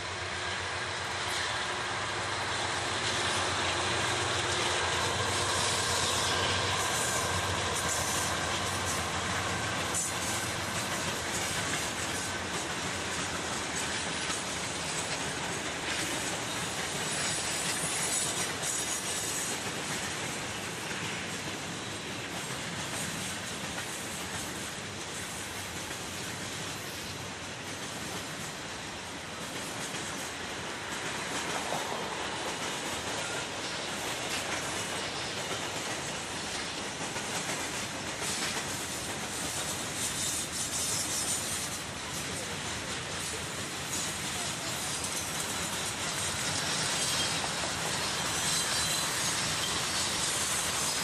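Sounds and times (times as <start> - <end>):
diesel locomotive engines: 0.0 - 51.0
rush of train wheels: 0.0 - 51.0
wheels clicking over rail joints: 2.2 - 51.0.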